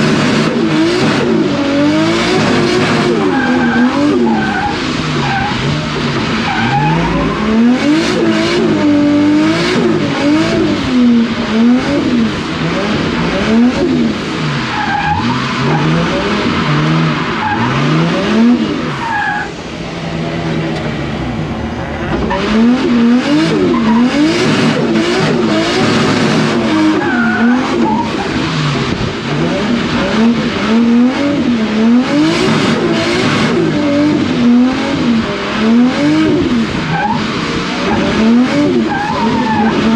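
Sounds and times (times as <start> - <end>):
car engine revving: 0.0 - 39.9
tyres skidding: 0.0 - 39.9.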